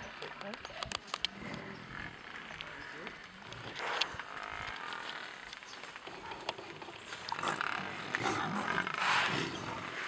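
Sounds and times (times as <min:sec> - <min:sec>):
lions and buffalo calling: 0:01.3 - 0:10.0.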